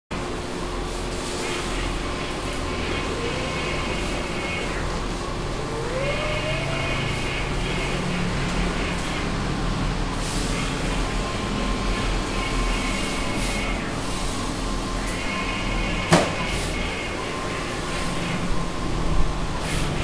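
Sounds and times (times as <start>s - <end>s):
printer mechanical hum: 0.1s - 20.0s
print-head carriage whine: 0.2s - 20.0s.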